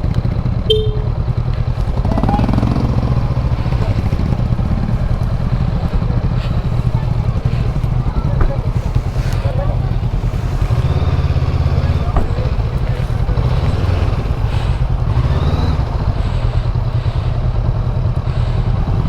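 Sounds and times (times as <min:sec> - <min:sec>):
faint voices: 0:00.0 - 0:19.0
motorcycle engine idling: 0:00.0 - 0:19.0.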